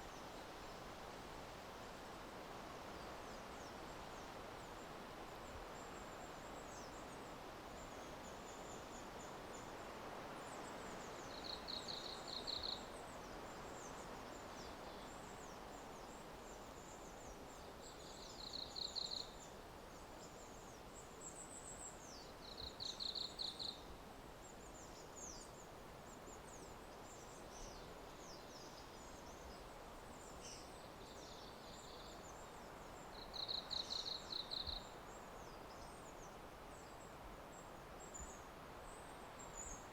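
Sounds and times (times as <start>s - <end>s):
steady soft hiss: 0.0s - 39.9s.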